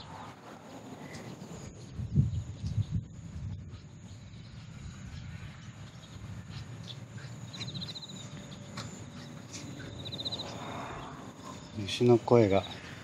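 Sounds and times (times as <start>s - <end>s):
crickets trilling: 0.0s - 13.0s
insect pulsed chirp: 0.0s - 13.0s.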